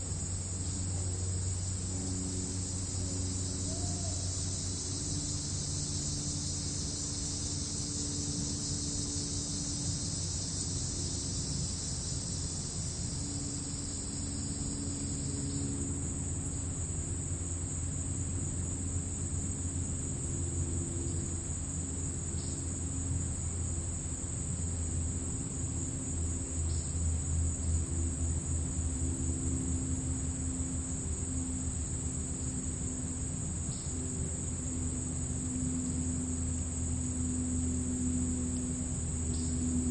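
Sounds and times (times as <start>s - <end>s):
crickets chirping: 0.0s - 39.9s
low rumble with faint hum: 0.0s - 39.9s
lower-pitched insect sound: 0.0s - 39.9s.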